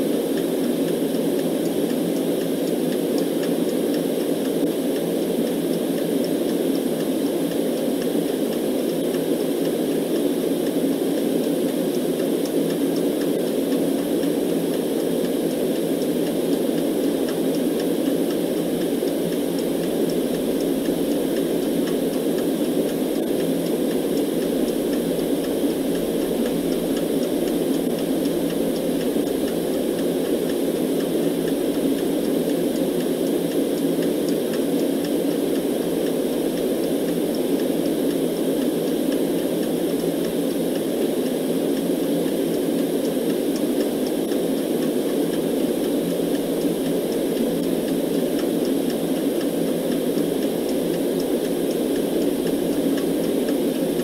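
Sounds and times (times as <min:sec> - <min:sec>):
muffled white noise: 0:00.0 - 0:54.0.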